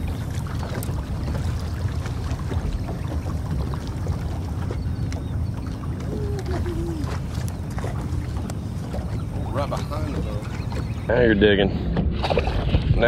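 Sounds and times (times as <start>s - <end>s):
waves lapping against hull: 0.0s - 13.0s
wind rumbling on microphone: 0.0s - 13.0s.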